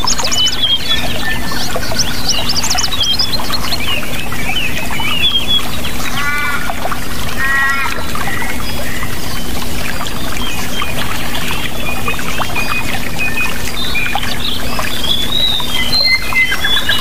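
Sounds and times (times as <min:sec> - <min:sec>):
long layered bird calls: 0:00.0 - 0:17.0
songbirds chirping: 0:00.0 - 0:17.0
water rushing: 0:00.0 - 0:17.0.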